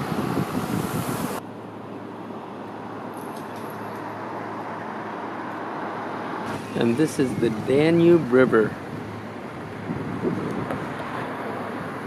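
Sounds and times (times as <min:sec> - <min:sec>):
vehicle road noise: 0:00.0 - 0:12.0.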